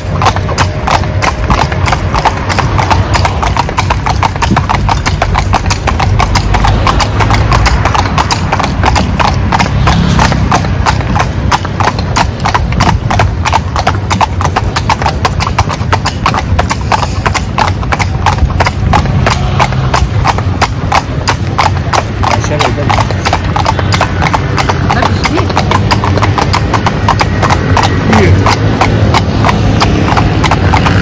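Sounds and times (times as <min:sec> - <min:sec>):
horse hooves clip-clopping on asphalt: 0:00.0 - 0:31.0.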